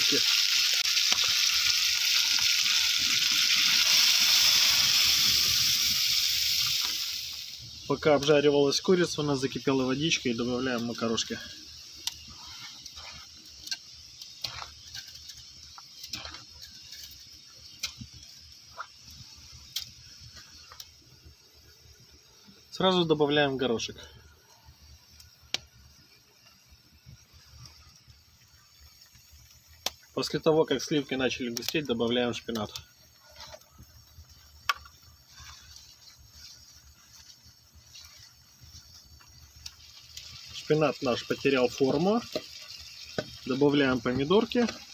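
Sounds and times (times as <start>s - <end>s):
pots hissing: 0.0s - 44.9s
sauce sizzling in a frying pan: 0.0s - 44.9s
wood fire crackling and popping: 0.0s - 44.9s.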